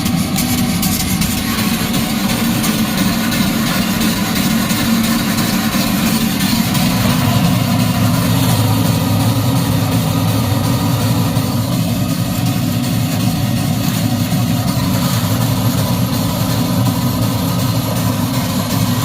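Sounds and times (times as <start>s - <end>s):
gas burner roaring: 0.0s - 19.0s.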